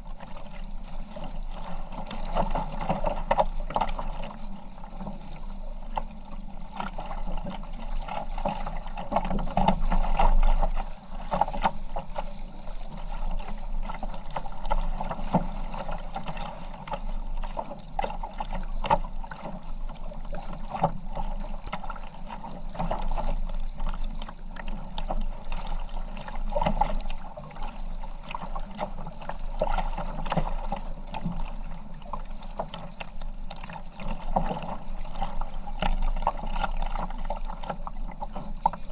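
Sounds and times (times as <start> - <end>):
paddling and water splashing: 0.0 - 38.9.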